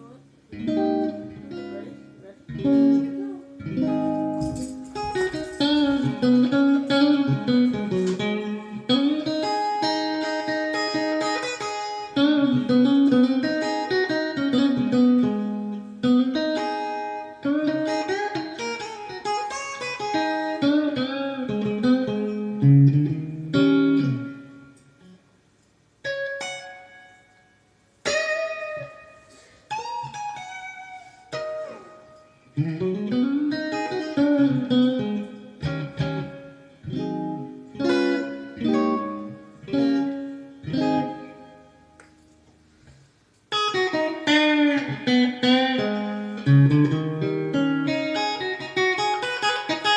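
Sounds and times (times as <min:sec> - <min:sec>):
electric guitar lead lines: 0:00.0 - 0:49.9
guitar chords ringing out: 0:00.0 - 0:49.9.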